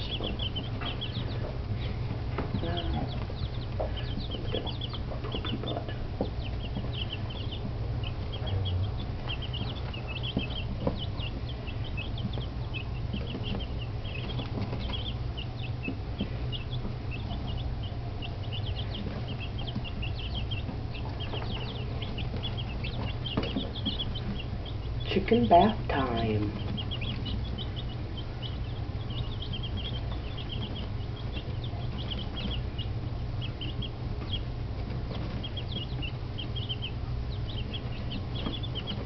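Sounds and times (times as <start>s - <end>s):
chicks peeping: 0.0s - 39.0s
steady low hum: 0.0s - 39.0s.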